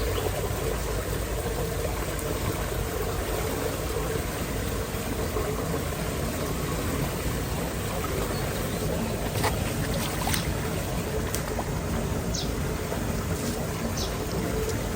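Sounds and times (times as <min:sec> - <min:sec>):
floodwater rushing: 0:00.0 - 0:14.9.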